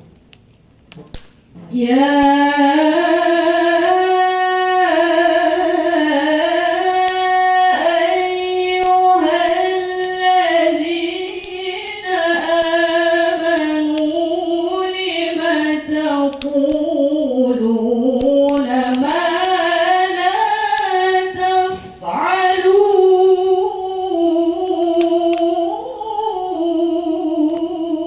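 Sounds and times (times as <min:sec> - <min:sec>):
woman reciting melodically: 0:01.6 - 0:28.0.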